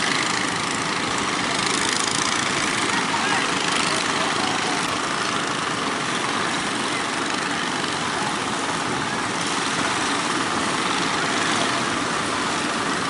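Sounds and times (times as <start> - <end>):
boat engines running: 0.0 - 13.0
wind: 0.0 - 13.0.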